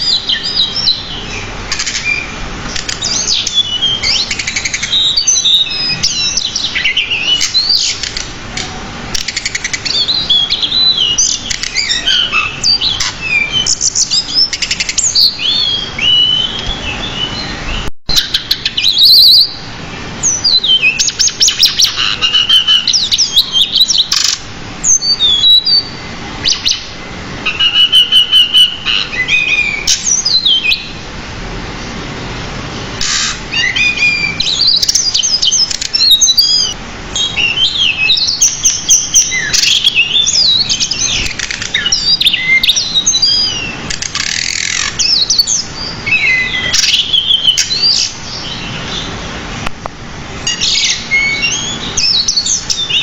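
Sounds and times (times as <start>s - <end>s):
bird singing chirps and trills: 0.0s - 32.1s, 32.7s - 49.7s, 50.3s - 53.0s.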